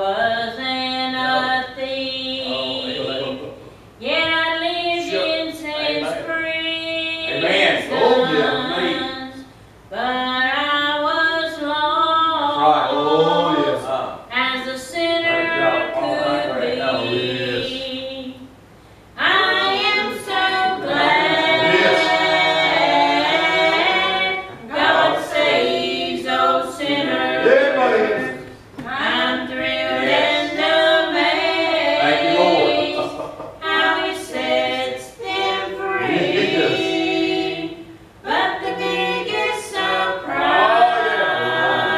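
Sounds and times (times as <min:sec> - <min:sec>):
women singing unaccompanied: 0:00.0 - 0:03.2, 0:04.0 - 0:12.9, 0:14.3 - 0:18.5, 0:19.2 - 0:41.9.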